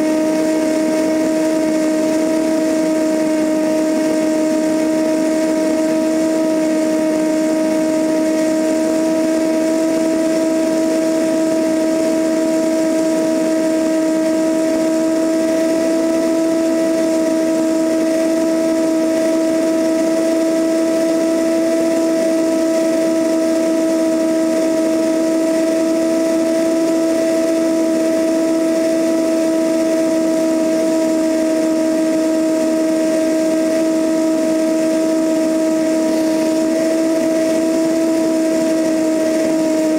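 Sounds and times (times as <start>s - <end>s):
airplane engine drone: 0.0s - 39.9s
rushing airflow: 0.0s - 39.9s.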